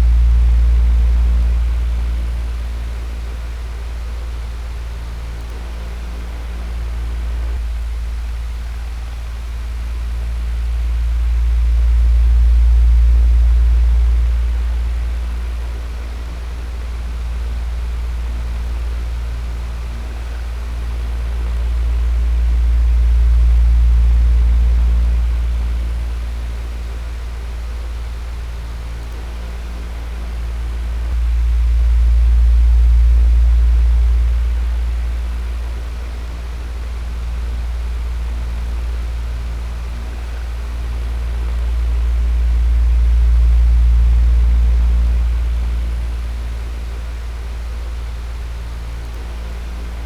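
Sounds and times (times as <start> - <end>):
electric fan running: 0.0 - 50.0.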